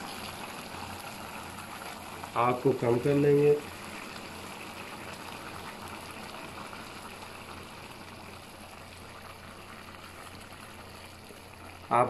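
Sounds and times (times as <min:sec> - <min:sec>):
pot bubbling at the boil: 0:00.0 - 0:12.0.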